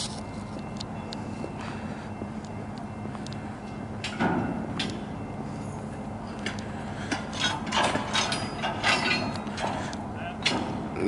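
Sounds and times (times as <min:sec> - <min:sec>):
diesel locomotive idling hum: 0:00.0 - 0:11.0.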